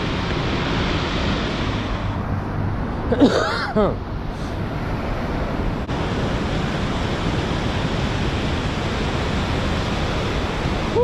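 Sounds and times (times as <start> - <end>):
river white water rushing: 0.0 - 11.0.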